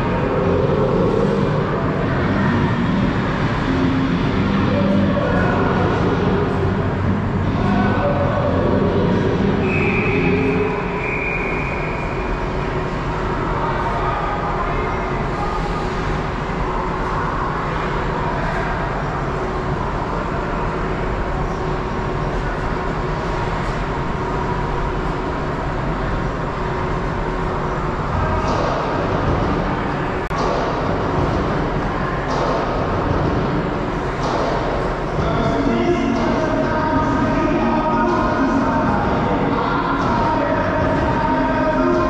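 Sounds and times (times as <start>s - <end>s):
arena noise: 0.0s - 42.0s.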